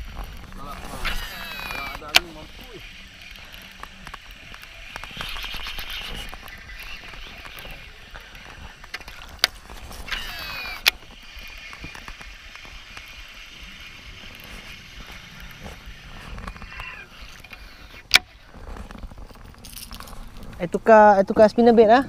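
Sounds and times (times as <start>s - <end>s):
fishing reel ticking: 0.0s - 20.9s
reel brake whine: 0.0s - 22.0s.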